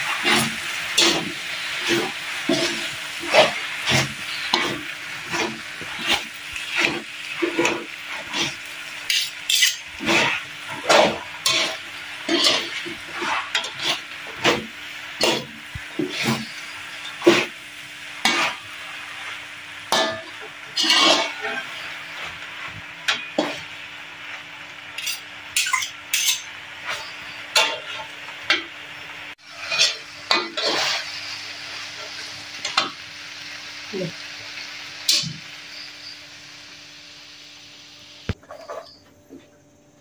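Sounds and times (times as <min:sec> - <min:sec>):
metal spatula scraping a wok: 0:00.0 - 0:17.6, 0:18.2 - 0:28.6, 0:29.4 - 0:32.9, 0:38.3 - 0:39.0
food sizzling in a pan: 0:00.0 - 0:39.0.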